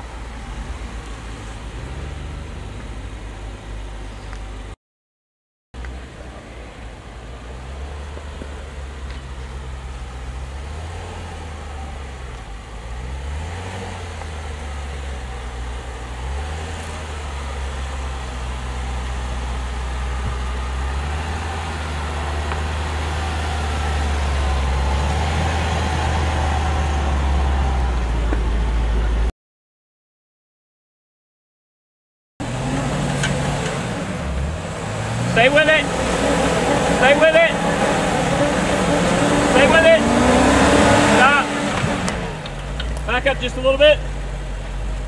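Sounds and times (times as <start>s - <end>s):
engine running at low speed: 5.8s - 29.3s, 32.4s - 45.0s.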